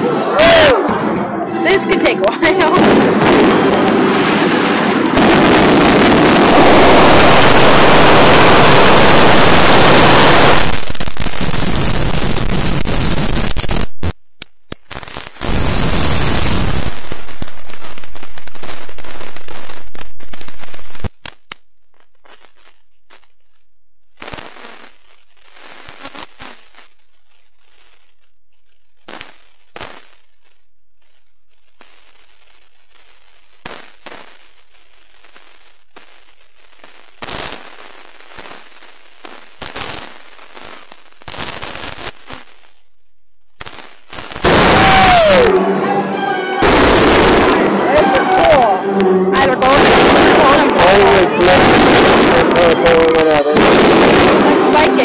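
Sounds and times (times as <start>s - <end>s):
fireworks bursting and crackling: 0.4s - 45.6s, 46.6s - 48.8s, 49.4s - 55.0s.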